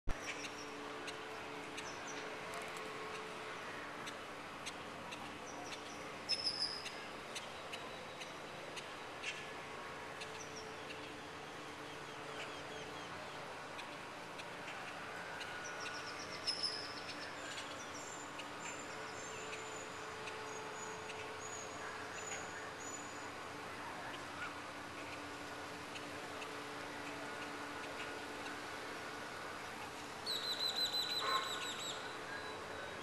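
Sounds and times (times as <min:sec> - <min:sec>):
birds chirping: 0:00.1 - 0:33.0
steady hum: 0:00.1 - 0:33.0.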